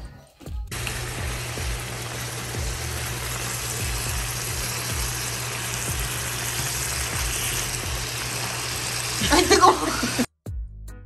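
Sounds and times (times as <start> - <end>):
chicken sizzling in a frying pan: 0.7 - 10.3.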